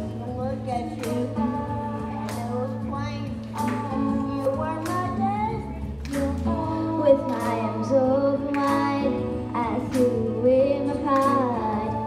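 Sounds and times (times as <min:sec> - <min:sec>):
instrumental backing track with bass: 0:00.0 - 0:12.0
person singing: 0:00.0 - 0:12.0.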